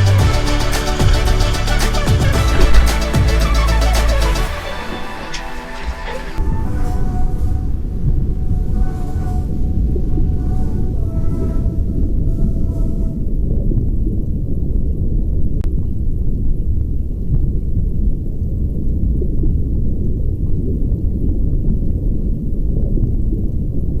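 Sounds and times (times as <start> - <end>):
low rumbling noise: 0.0 - 24.0.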